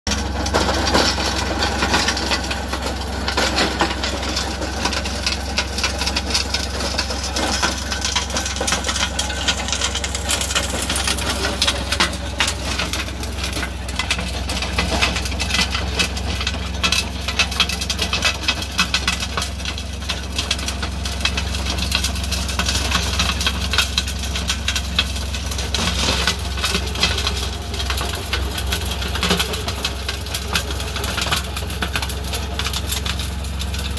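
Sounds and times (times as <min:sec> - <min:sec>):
stones rattling against tiller: 0:00.1 - 0:33.9
tractor diesel engine running: 0:00.1 - 0:33.9.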